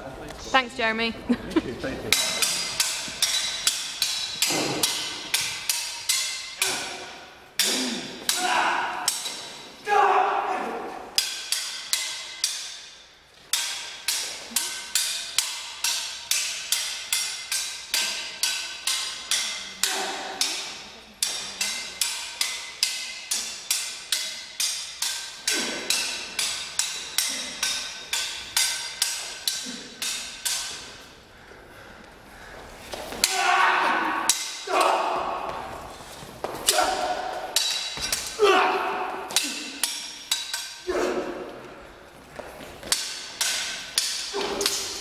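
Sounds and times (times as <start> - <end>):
swords clashing with echo: 2.1 - 31.2, 32.4 - 45.0.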